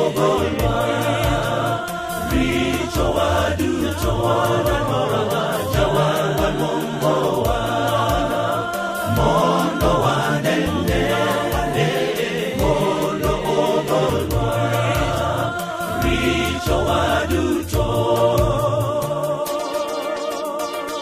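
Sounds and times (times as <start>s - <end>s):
male choir singing in harmony: 0.0s - 21.0s
steady beat with bass notes: 0.0s - 21.0s.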